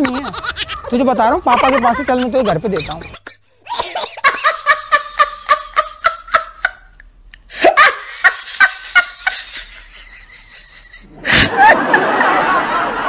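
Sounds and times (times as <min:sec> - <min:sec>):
women laughing: 0:00.0 - 0:07.0, 0:07.6 - 0:13.0.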